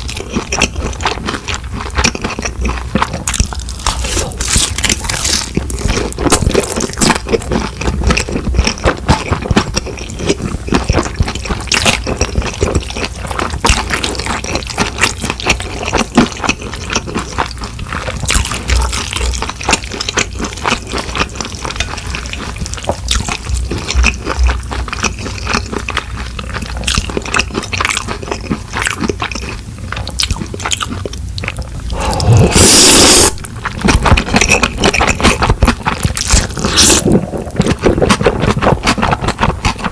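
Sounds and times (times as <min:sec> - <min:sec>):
chewing with wet mouth noises: 0:00.0 - 0:39.9
food crunching: 0:00.0 - 0:39.9.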